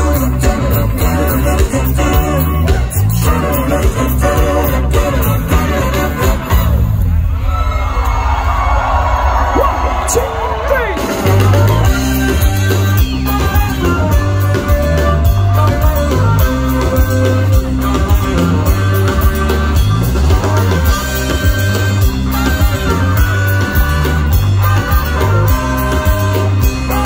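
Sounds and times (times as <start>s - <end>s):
electric guitar: 0.0s - 7.3s, 11.0s - 27.0s
bass line: 0.0s - 27.0s.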